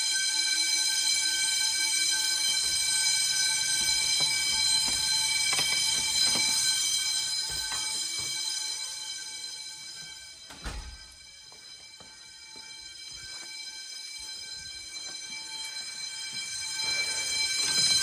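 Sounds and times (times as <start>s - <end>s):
fire alarm bells ringing: 0.0s - 18.0s.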